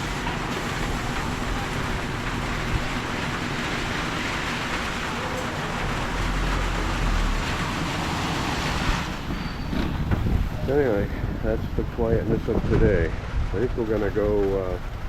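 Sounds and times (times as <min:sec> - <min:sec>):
engine rumble: 0:00.0 - 0:15.0
tyres hissing on wet road: 0:00.0 - 0:15.0.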